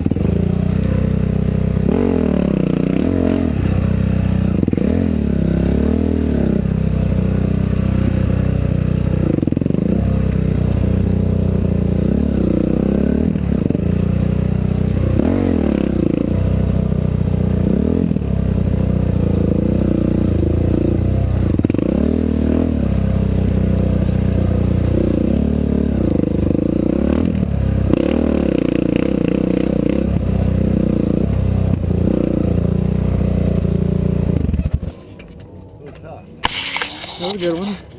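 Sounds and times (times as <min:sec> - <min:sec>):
off-road vehicle engine at speed: 0:00.0 - 0:37.9.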